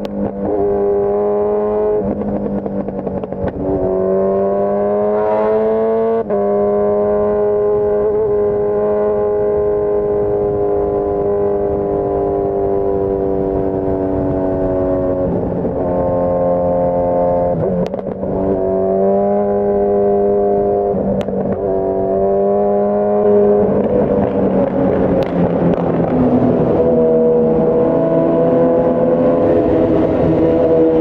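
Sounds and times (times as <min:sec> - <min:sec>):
motorcycle engine cruising: 0:00.0 - 0:31.0.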